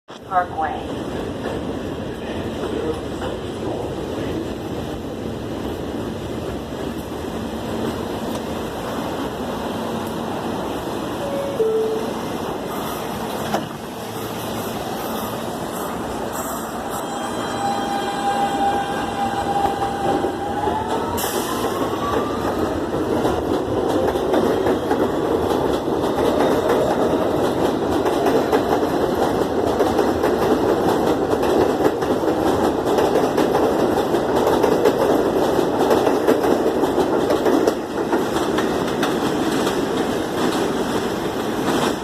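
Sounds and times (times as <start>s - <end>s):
train wheels rumbling on rails: 0.4s - 42.0s.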